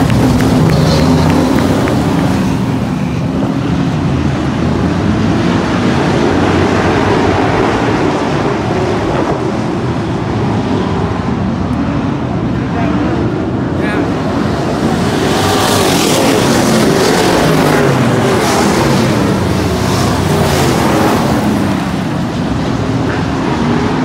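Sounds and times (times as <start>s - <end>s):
distant race car engines: 0.0s - 24.0s
race car engine passing: 0.0s - 24.0s.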